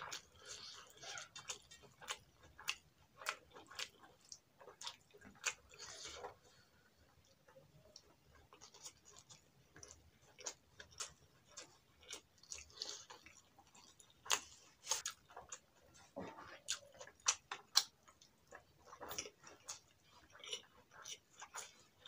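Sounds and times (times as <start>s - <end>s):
wet chewing smacks and clicks: 0.0s - 6.4s, 7.2s - 22.0s.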